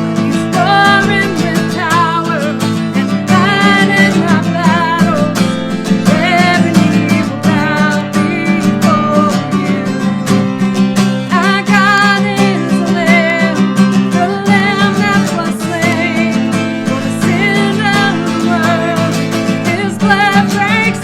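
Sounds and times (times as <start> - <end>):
person singing with vibrato: 0.0 - 21.0
strummed accompaniment: 0.0 - 21.0.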